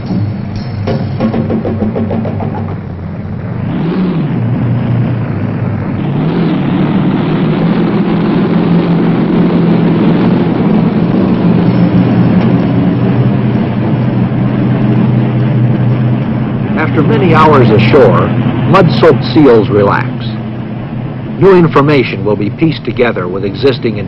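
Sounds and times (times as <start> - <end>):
boat engines droning: 0.0 - 24.0.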